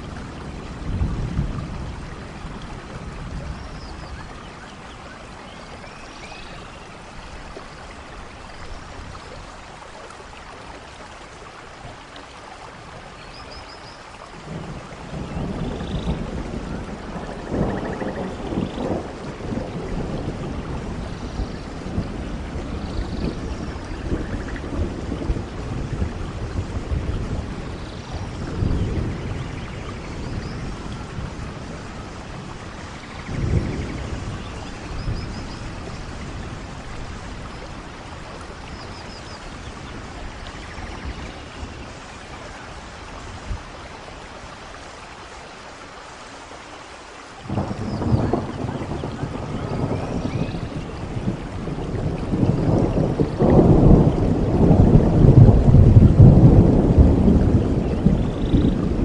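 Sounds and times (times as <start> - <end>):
rain on leaves and ground: 0.0 - 59.0.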